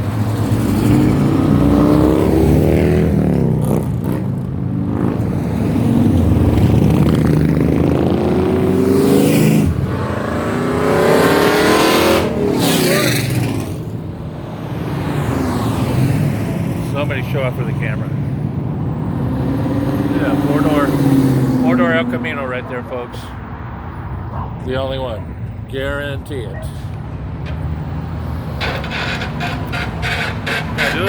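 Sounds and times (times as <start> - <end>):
cars revving and driving off: 0.0 - 31.0.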